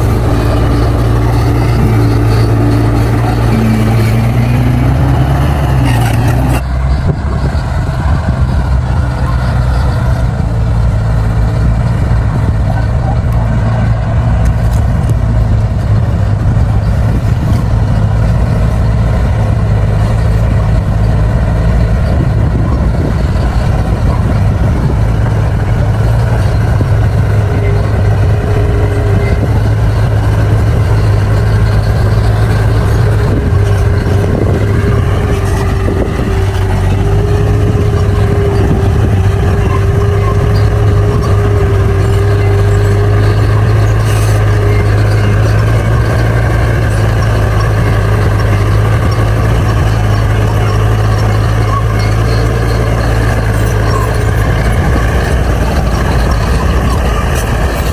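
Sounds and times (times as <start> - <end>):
bulldozer diesel engine droning: 0.0 - 57.9.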